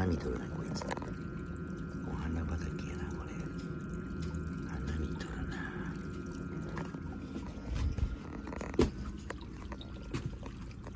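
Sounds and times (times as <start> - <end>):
steady low hum: 0.0 - 10.9
water trickling and dripping: 0.0 - 10.9.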